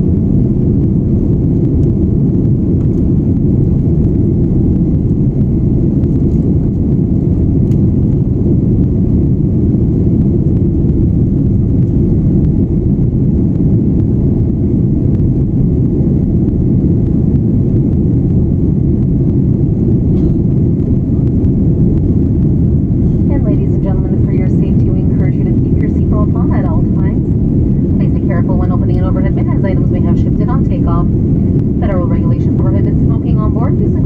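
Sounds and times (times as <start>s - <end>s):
jet engine rumble in cabin: 0.0s - 34.0s.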